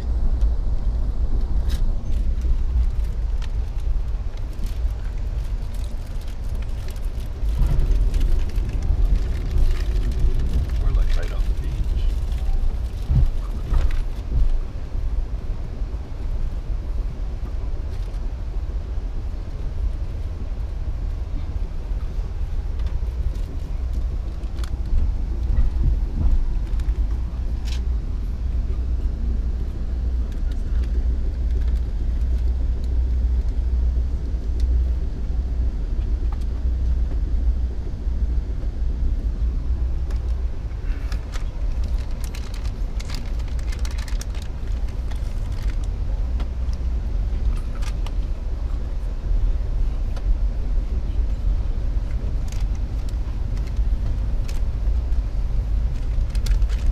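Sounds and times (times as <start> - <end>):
train rumbling inside coach: 0.0 - 56.9.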